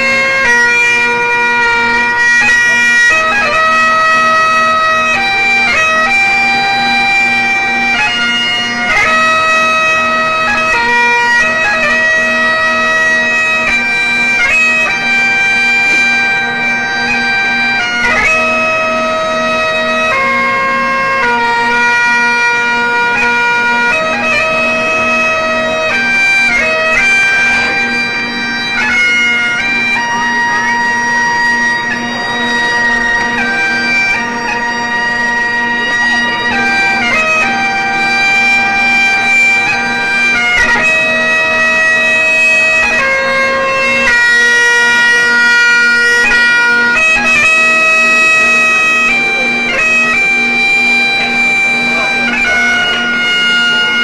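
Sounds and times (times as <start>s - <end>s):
bagpipe playing a tune: 0.0s - 54.0s.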